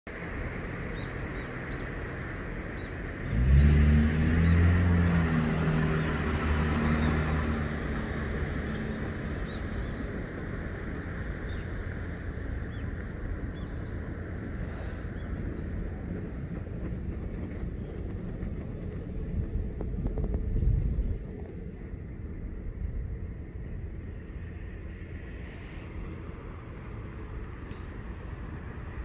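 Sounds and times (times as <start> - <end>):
steady outdoor hiss: 0.1 - 29.0
vehicle engine hum: 0.1 - 29.0.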